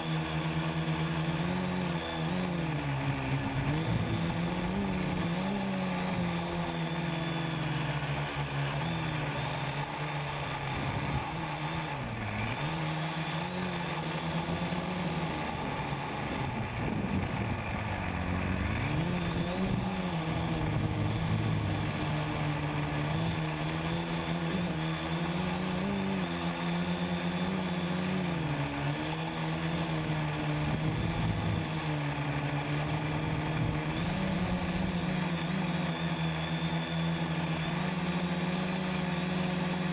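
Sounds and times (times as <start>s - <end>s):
drone motors and propellers buzzing: 0.0s - 39.9s.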